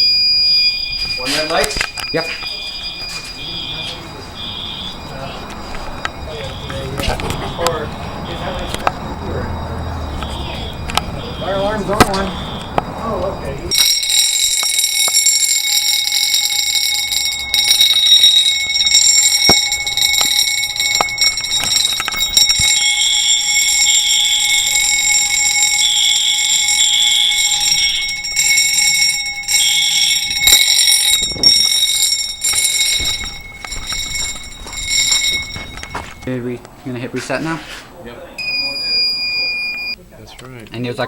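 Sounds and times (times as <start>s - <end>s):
fire alarm sounders: 0.0s - 36.4s, 38.3s - 40.0s.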